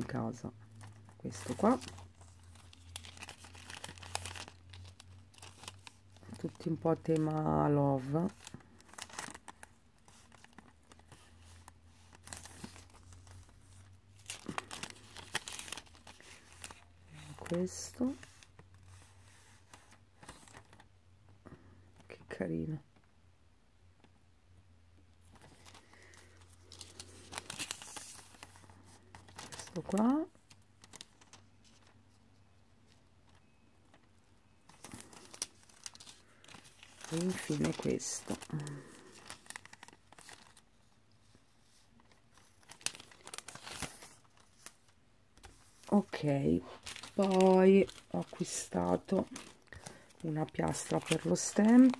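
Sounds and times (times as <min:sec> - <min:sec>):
plastic sachets crinkling: 0:00.1 - 0:18.9, 0:25.2 - 0:51.9.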